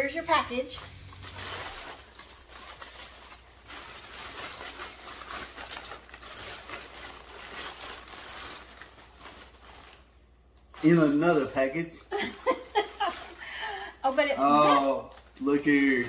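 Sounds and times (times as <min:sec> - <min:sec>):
plastic mailer bag crinkling: 0:00.6 - 0:16.0.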